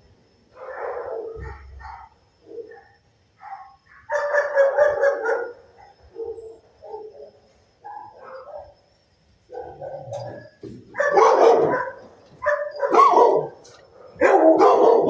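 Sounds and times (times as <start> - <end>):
dogs barking: 0.6 - 8.8, 9.5 - 15.0.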